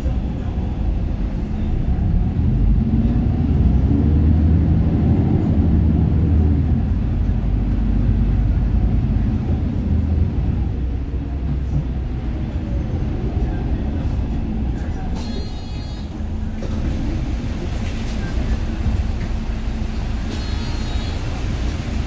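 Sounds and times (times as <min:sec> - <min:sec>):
bus engine: 0:00.0 - 0:22.0
road rumble: 0:00.0 - 0:22.0.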